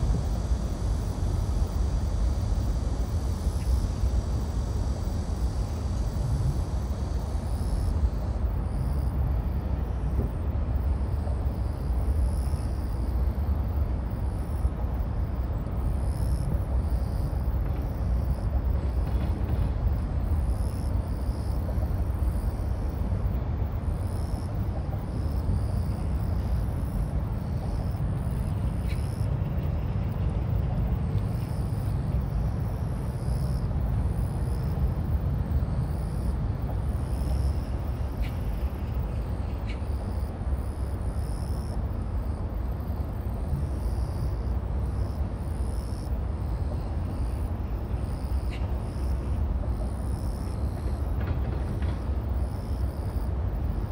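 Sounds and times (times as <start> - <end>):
low outdoor rumble: 0.0 - 53.9.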